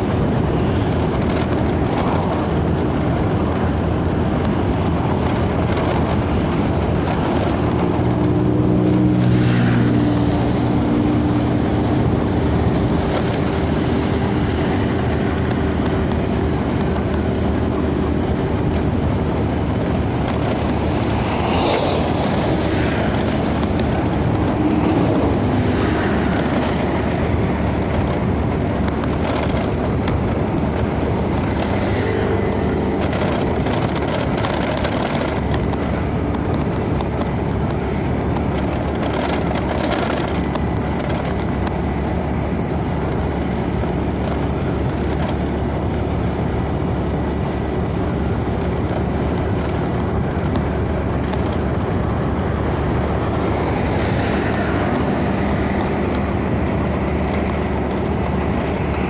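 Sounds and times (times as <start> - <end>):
road and wind rush: 0.0 - 59.0
vehicle engine droning: 0.0 - 59.0.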